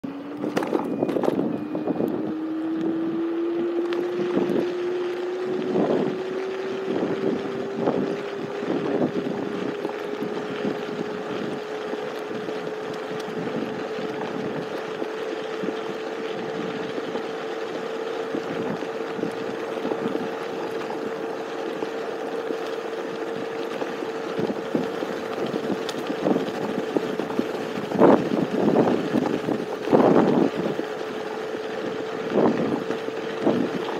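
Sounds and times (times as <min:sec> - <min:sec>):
electric scooter motor whining: 0:00.0 - 0:33.9
wind rushing over microphone: 0:00.2 - 0:33.9.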